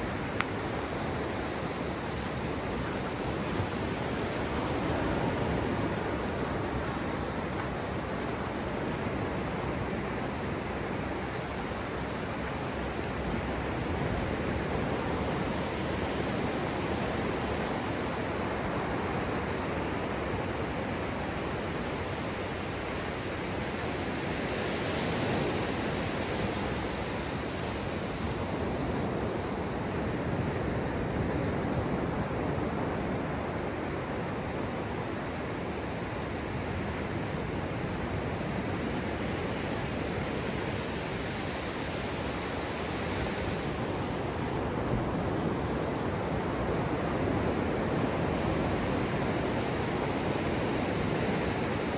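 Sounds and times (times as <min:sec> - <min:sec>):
small waves breaking on sand: 0:00.0 - 0:51.9.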